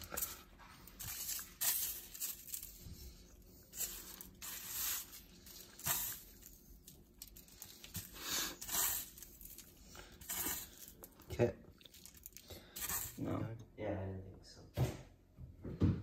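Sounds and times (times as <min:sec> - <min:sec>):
breadcrumbs rustling on paper plate: 0:00.0 - 0:13.2.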